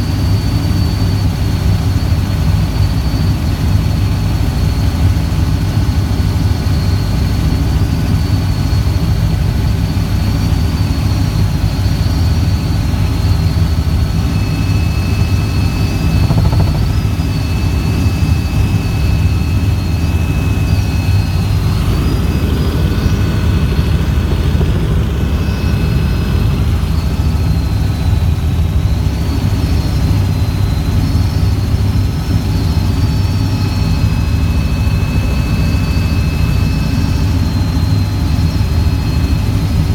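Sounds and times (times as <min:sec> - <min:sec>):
helicopter engine and rotor drone: 0:00.0 - 0:39.9
high turbine whine: 0:00.0 - 0:39.9.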